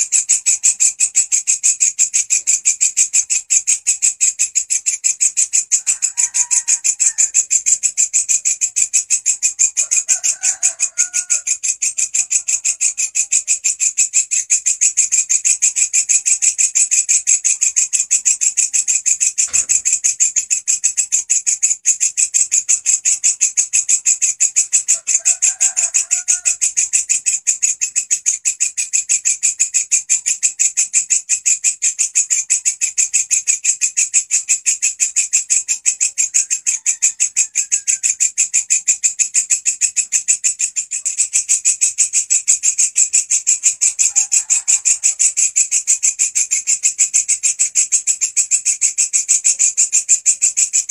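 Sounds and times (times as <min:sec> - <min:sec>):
bush cricket buzzing song: 0:00.0 - 0:50.9.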